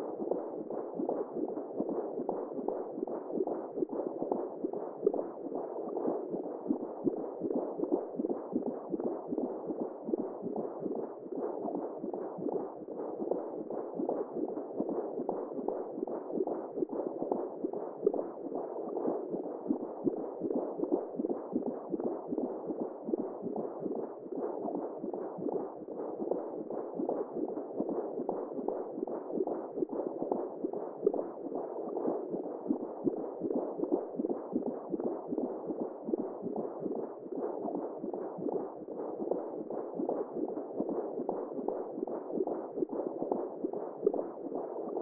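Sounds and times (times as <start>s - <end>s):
muffled pulsing womb whooshing: 0.0s - 45.0s.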